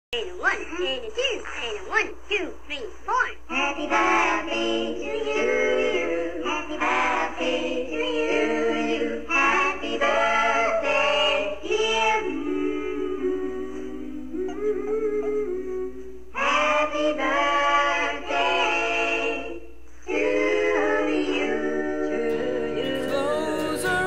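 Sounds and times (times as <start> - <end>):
voices singing in harmony: 3.4 - 24.0.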